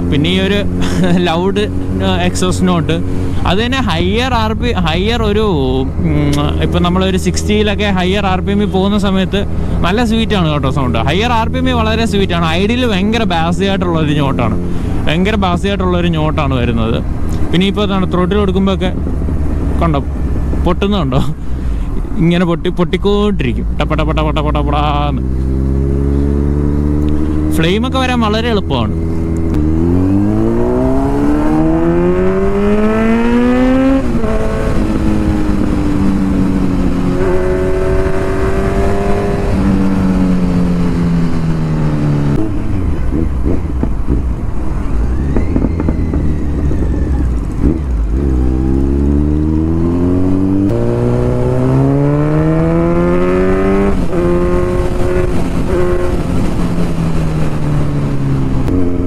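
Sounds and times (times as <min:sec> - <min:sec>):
motorcycle engine revving: 0:00.0 - 0:22.0, 0:23.8 - 0:59.0.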